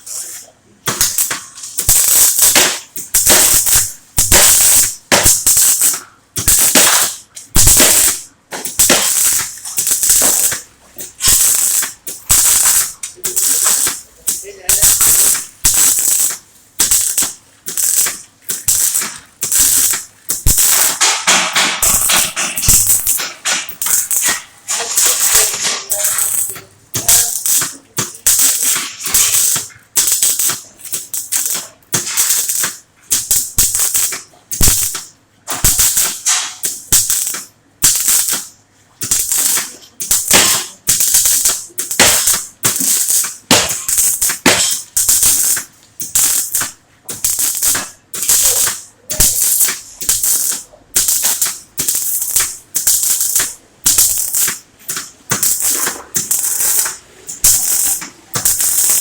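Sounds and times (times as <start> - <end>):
welder arc crackling: 0.0 - 59.0.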